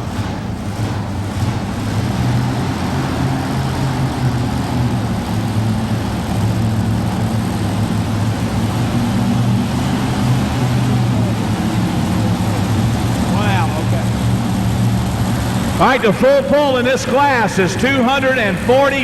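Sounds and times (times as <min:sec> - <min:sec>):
big engine idling: 0:00.0 - 0:19.0.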